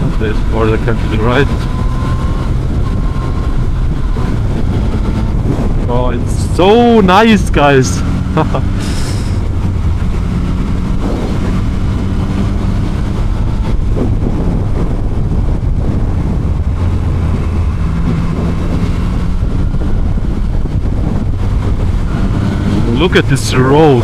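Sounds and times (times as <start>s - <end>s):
motorcycle engine cruising: 0.0s - 24.0s
wind rushing over microphone: 0.0s - 24.0s.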